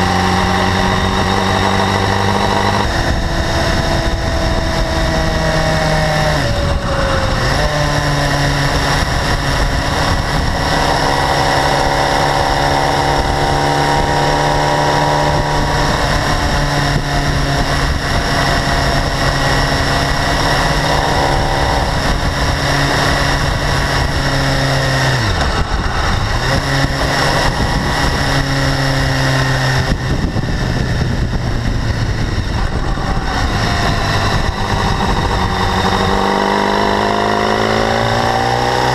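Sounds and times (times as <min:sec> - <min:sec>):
high-frequency engine ticking: 0:00.0 - 0:38.2
motorcycle engine running: 0:00.0 - 0:38.9.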